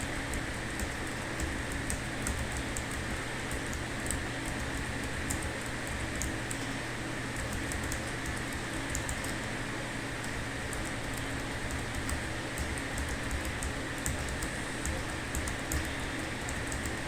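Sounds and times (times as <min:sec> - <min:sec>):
steady low hum: 0:00.0 - 0:17.0
keyboard typing: 0:00.8 - 0:06.4, 0:07.4 - 0:09.4, 0:10.7 - 0:17.0.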